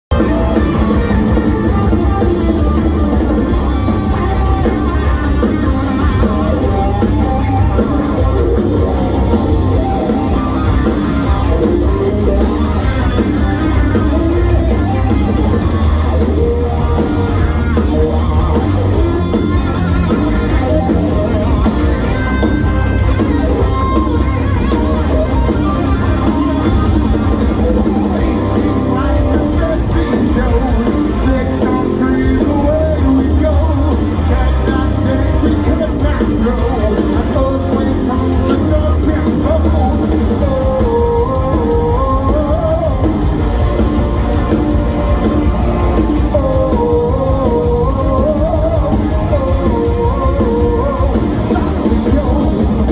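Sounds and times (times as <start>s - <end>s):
bass guitar: 0.0s - 52.9s
distorted electric guitars: 0.0s - 52.9s
drum kit: 0.1s - 52.9s.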